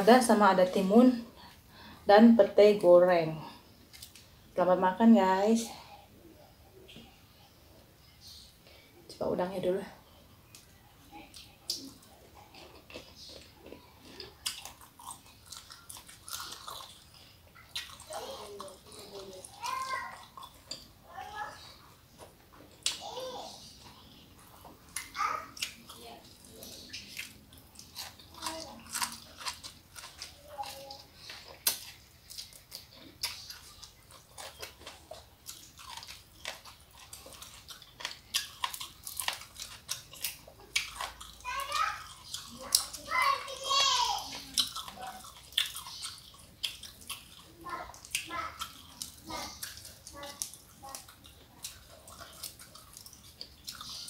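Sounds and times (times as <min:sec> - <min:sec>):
person chewing food: 0:03.4 - 0:04.4, 0:10.1 - 0:43.6, 0:44.2 - 0:54.0.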